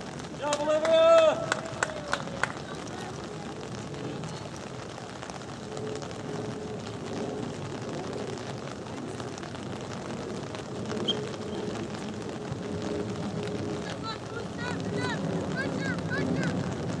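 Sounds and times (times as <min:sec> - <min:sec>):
faint distant voices: 0:00.7 - 0:17.0.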